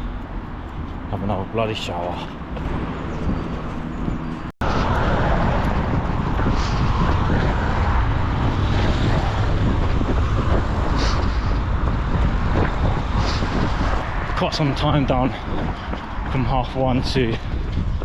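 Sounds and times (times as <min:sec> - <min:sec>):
passing road traffic: 0:00.0 - 0:18.0
wind buffeting microphone: 0:00.0 - 0:18.0.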